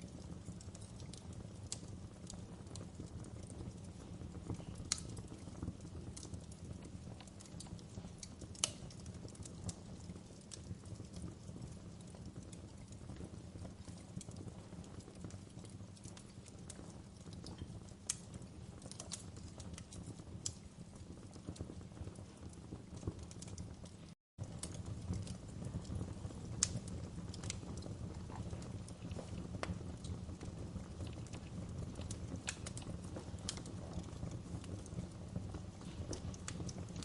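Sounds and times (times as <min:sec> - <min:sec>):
low rumble of burning logs: 0:00.0 - 0:37.0
sharp pops and snaps: 0:00.4 - 0:03.6, 0:04.2 - 0:11.3, 0:13.6 - 0:20.7, 0:21.3 - 0:37.0.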